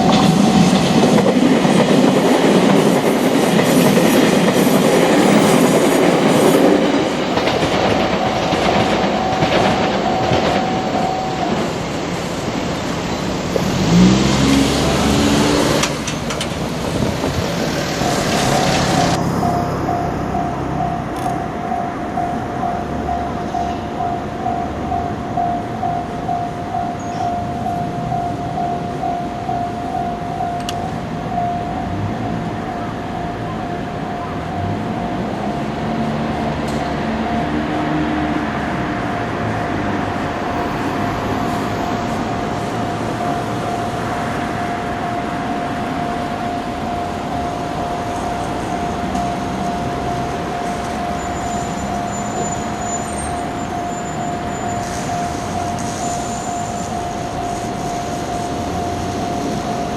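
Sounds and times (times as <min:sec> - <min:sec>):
level-crossing warning bell: 0:00.0 - 0:59.9
train running noise: 0:00.0 - 0:59.9.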